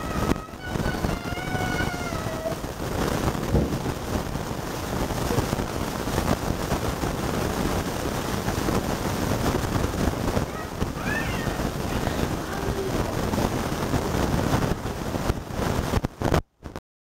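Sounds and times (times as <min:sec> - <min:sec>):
hail and rain pelting: 0:00.0 - 0:16.4.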